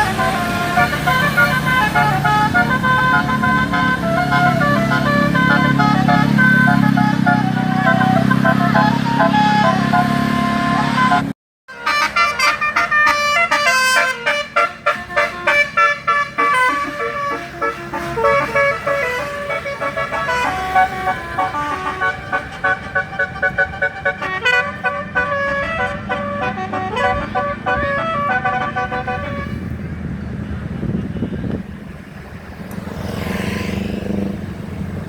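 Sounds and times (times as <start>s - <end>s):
bus horn playing melody: 0.0s - 29.8s
bus engine rumble: 0.0s - 35.0s.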